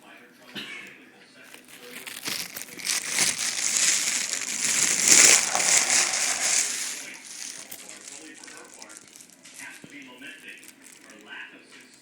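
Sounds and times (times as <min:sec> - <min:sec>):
loud crackling rustling noise: 0:01.4 - 0:12.0.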